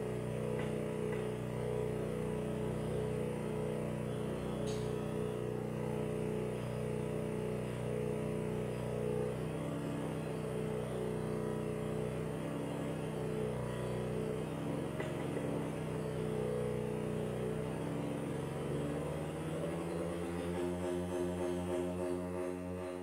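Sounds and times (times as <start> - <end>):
synthesizer low drone: 0.0 - 23.0.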